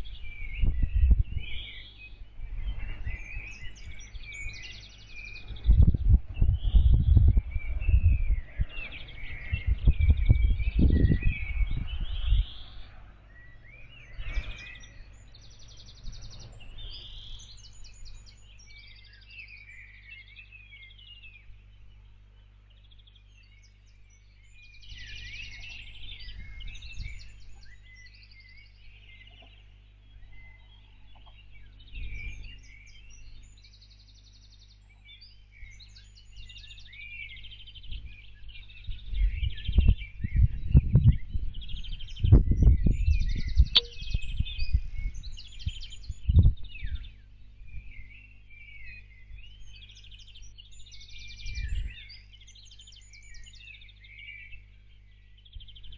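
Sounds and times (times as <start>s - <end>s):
small birds singing: 0.0s - 55.9s
steady low hum: 0.0s - 55.9s.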